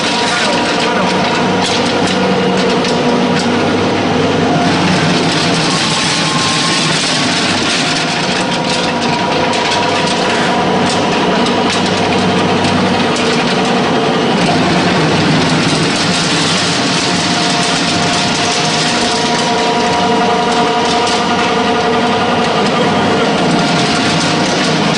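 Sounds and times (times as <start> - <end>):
electric motor hum: 0.0 - 24.9.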